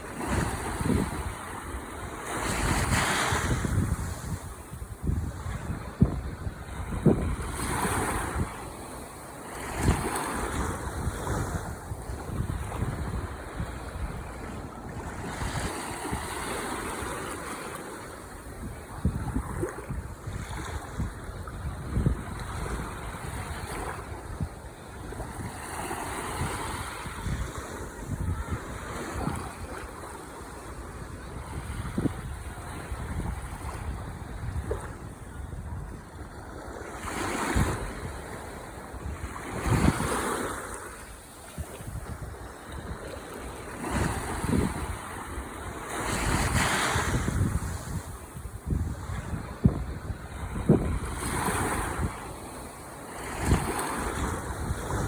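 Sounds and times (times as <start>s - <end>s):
ocean waves breaking ashore: 0.0s - 55.0s
wind buffeting the microphone: 0.0s - 55.0s.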